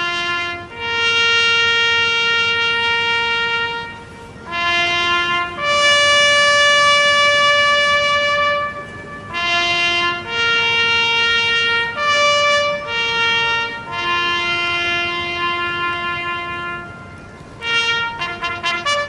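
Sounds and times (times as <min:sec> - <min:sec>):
solo brass horn bugle call: 0:00.0 - 0:19.0.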